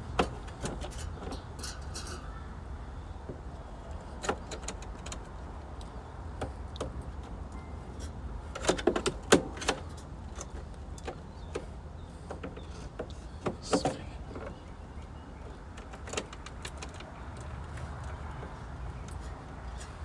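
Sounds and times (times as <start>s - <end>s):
clicks and rattles of wiring: 0.0s - 2.4s, 3.8s - 14.6s, 15.6s - 20.0s.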